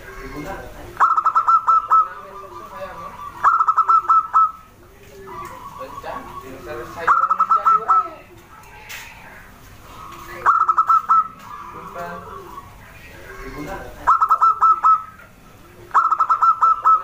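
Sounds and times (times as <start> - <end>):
dove cooing: 0.0 - 17.0
faint bird calls: 0.0 - 17.0.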